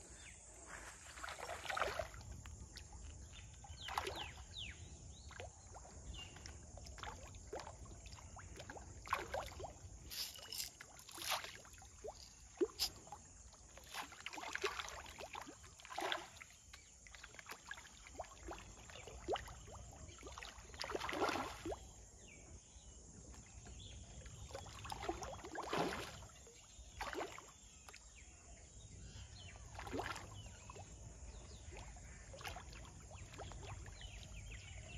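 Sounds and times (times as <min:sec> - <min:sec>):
fish splashing in pond: 0:00.8 - 0:22.0, 0:24.4 - 0:28.0, 0:29.6 - 0:34.8.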